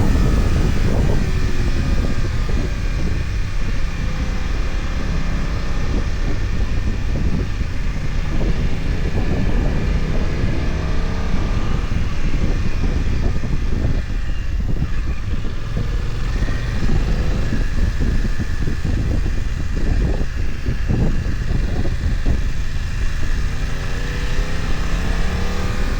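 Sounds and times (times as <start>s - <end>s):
motorcycle engine running: 0.0s - 25.9s
wind and road noise: 0.0s - 25.9s.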